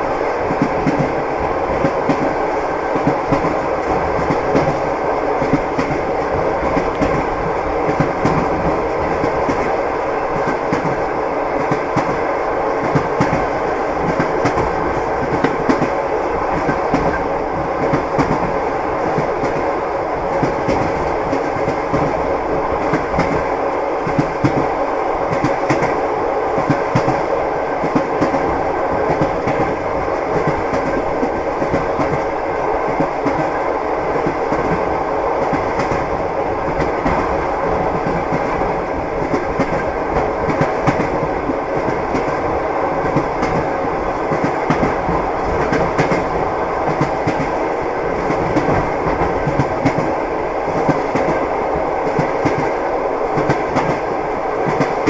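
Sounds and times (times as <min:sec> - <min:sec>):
train rumble: 0:00.0 - 0:55.0
train wheels clickety-clack: 0:00.0 - 0:55.0.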